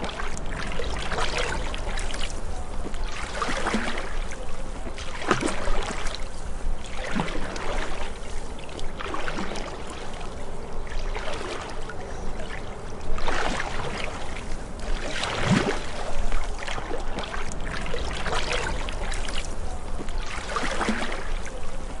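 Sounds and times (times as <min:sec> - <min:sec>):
paddle strokes splashing water: 0:00.0 - 0:22.0.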